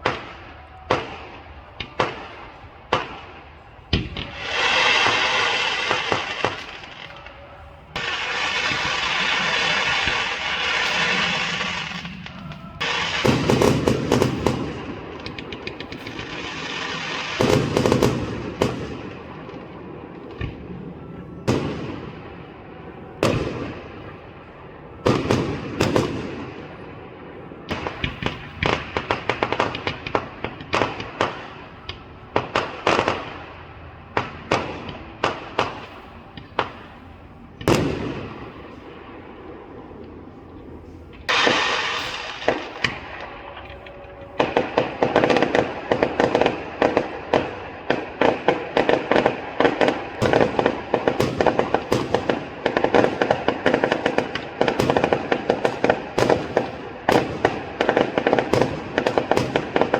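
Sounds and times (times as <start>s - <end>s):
fireworks bangs with crackle: 0.0s - 59.9s.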